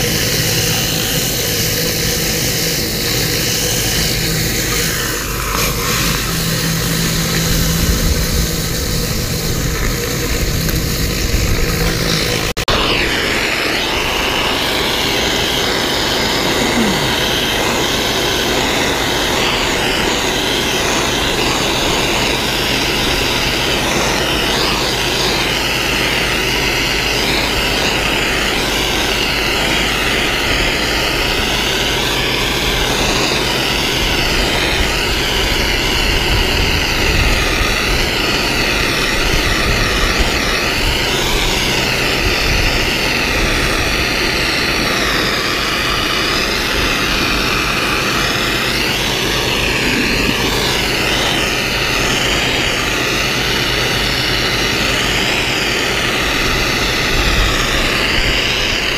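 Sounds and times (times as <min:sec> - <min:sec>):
high-pressure water jet hissing: 0:00.0 - 0:58.9
pressure washer engine drone: 0:00.0 - 0:58.9.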